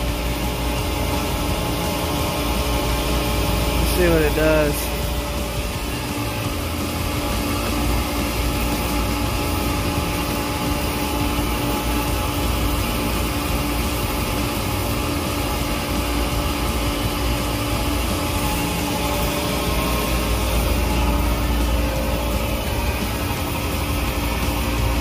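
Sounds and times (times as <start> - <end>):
screw compressor droning: 0.0 - 25.0.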